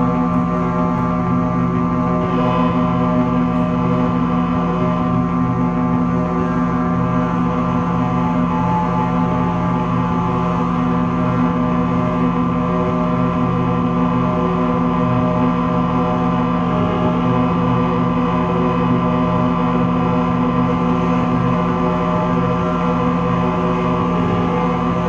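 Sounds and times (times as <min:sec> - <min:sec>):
ambient drone music: 0:00.0 - 0:25.0.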